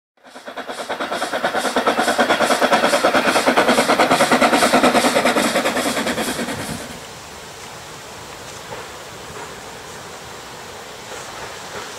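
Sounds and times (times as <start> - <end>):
steam locomotive exhaust beats: 0.2 - 7.4, 8.2 - 11.9.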